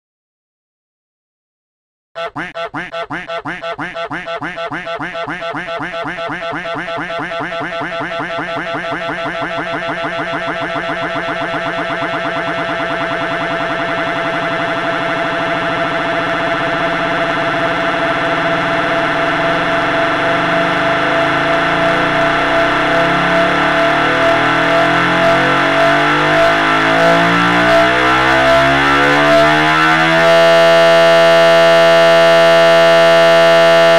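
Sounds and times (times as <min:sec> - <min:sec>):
looped duck and goose samples: 0:02.2 - 0:33.9
harsh continuous tone: 0:02.4 - 0:33.9.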